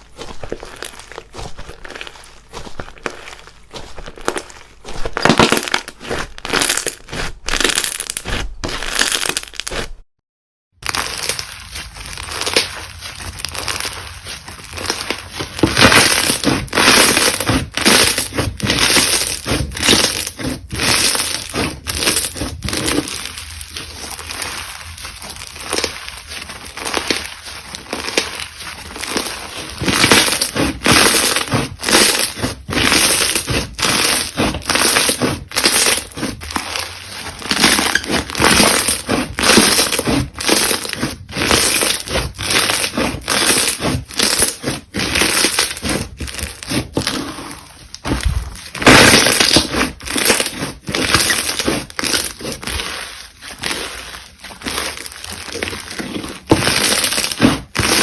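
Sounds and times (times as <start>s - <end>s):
crunchy slime crackling: 0.0s - 10.0s, 10.8s - 58.0s.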